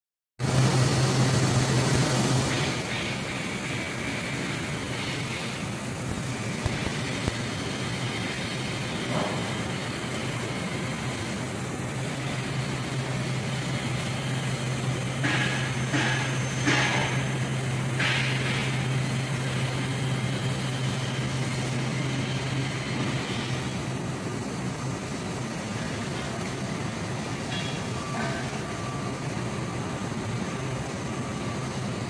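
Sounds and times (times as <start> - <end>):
laser cutter hissing: 0.4 - 32.0
low machine hum: 0.4 - 32.0.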